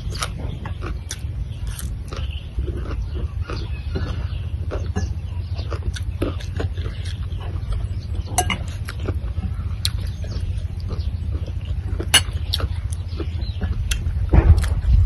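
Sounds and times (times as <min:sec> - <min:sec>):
chewing: 0:00.0 - 0:15.0
low rumble: 0:00.0 - 0:15.0.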